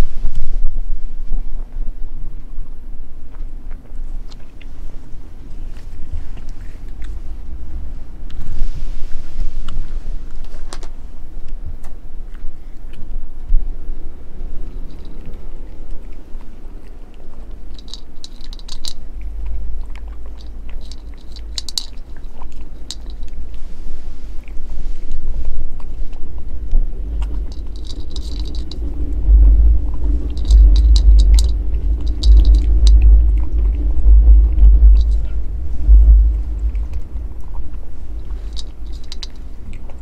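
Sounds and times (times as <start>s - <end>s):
cat crunching dry kibble: 0.0s - 40.0s
low rumble: 0.0s - 40.0s.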